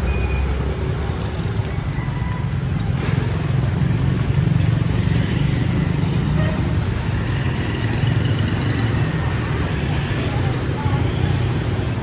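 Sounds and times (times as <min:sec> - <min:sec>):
motorbike and scooter traffic: 0:00.0 - 0:12.0.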